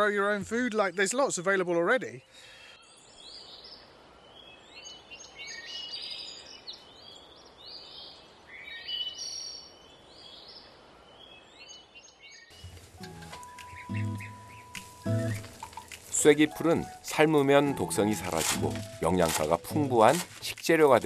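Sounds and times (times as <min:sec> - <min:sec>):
songbirds singing: 0:00.0 - 0:20.4.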